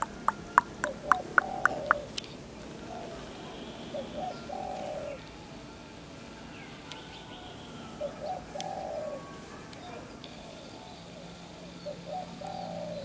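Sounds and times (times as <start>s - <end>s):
bird cooing: 0.0s - 2.2s, 2.8s - 5.3s, 6.6s - 13.0s.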